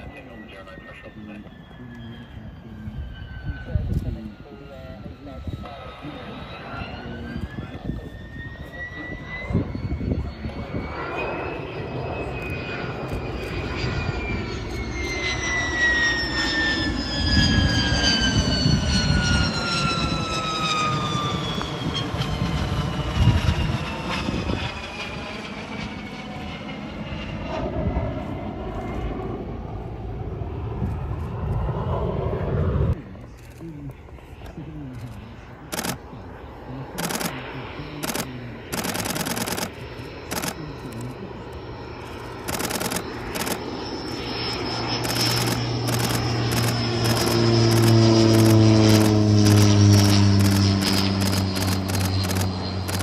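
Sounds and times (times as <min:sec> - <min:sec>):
jet engine flying past: 0:00.0 - 0:53.0.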